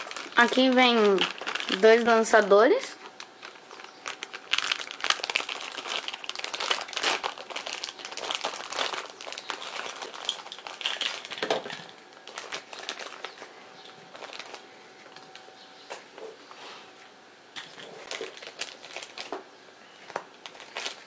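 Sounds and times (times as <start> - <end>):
plastic bag crinkling: 0.0 - 16.0, 17.6 - 21.0.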